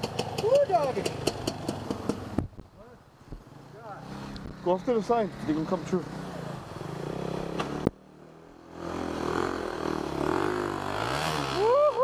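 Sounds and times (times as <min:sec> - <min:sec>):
dirt bike revving: 0:00.0 - 0:02.4, 0:03.4 - 0:12.0
dirt bike engine idling: 0:00.0 - 0:11.1.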